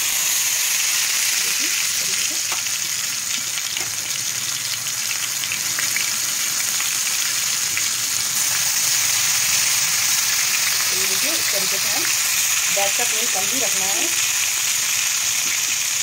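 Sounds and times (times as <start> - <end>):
eggplant sizzling in hot oil: 0.0 - 16.0.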